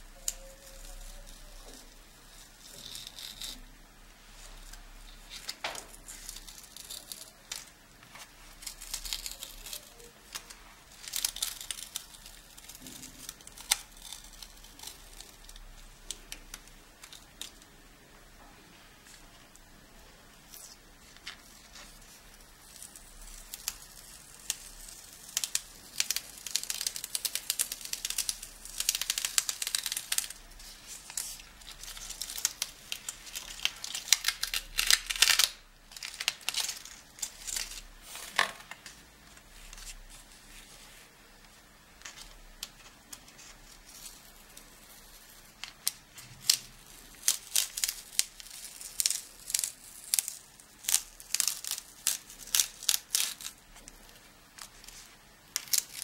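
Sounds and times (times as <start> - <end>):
masking tape peeling off paper: 0.0 - 17.7, 20.5 - 56.0.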